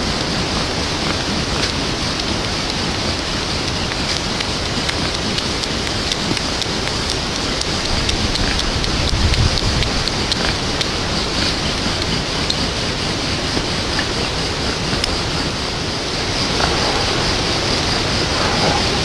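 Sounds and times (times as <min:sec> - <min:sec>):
heavy rain falling: 0:00.0 - 0:19.0
low rumble of wind: 0:00.0 - 0:19.0
drop ticks: 0:00.1 - 0:17.4.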